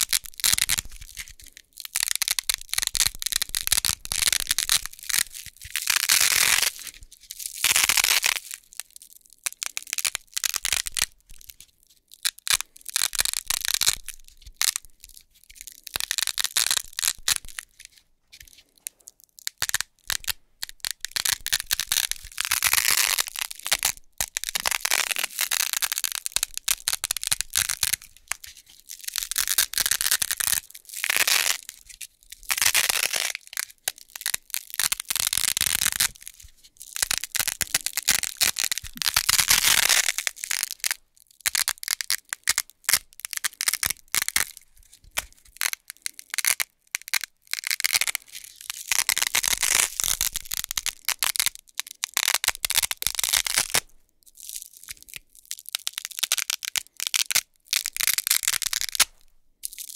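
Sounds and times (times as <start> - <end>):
velcro tape ripping apart: 0.0 - 8.6, 15.7 - 18.8, 19.4 - 53.9, 55.8 - 59.9.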